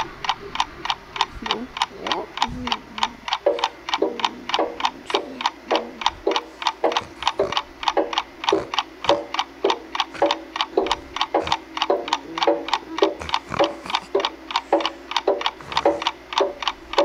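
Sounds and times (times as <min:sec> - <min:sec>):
clock ticking fast: 0:00.0 - 0:17.0.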